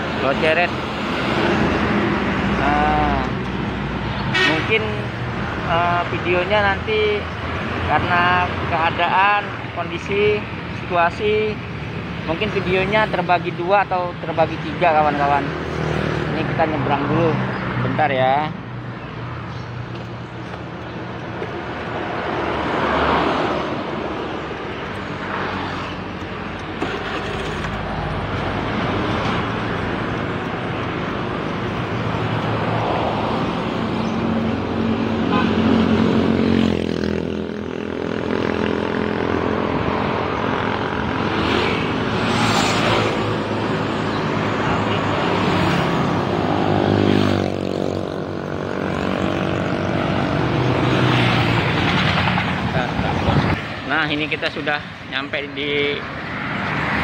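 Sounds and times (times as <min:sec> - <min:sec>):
passing road traffic: 0:00.0 - 0:57.0.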